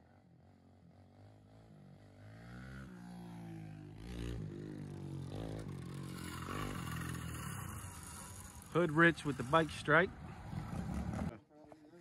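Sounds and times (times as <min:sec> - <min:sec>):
small motorbike engine revving: 0:00.9 - 0:11.3.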